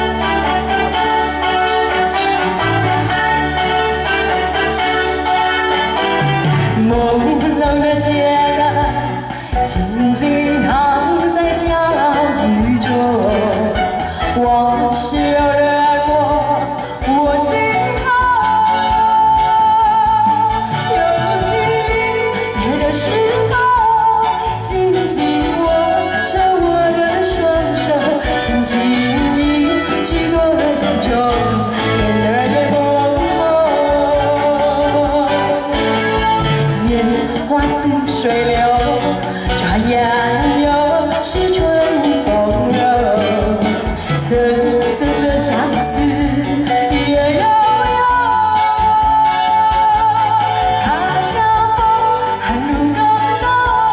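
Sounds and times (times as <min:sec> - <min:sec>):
live band with drums and keyboard: 0:00.0 - 0:53.9
woman singing into a microphone: 0:00.0 - 0:53.9.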